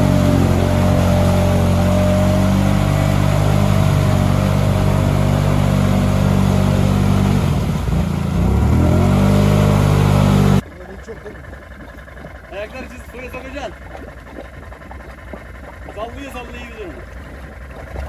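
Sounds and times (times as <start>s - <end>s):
atv engine revving in mud: 0.0s - 10.7s, 11.6s - 18.0s.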